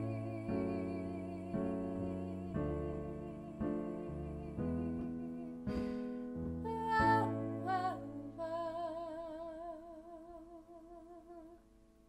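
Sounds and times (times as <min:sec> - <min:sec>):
woman singing: 0:00.0 - 0:06.0, 0:06.6 - 0:11.7.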